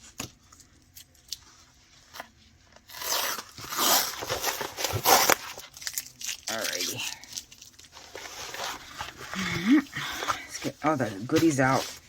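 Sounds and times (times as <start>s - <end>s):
packaging crinkling and tearing: 0.4s - 12.0s.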